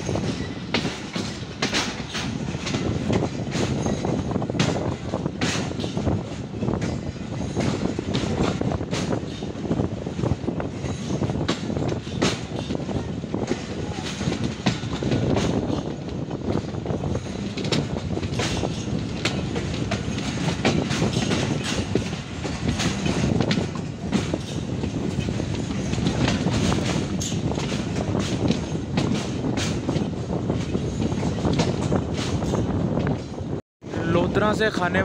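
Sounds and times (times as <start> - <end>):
wheels clacking over rail joints: 0.0 - 33.6
train coach rumbling: 0.0 - 35.0.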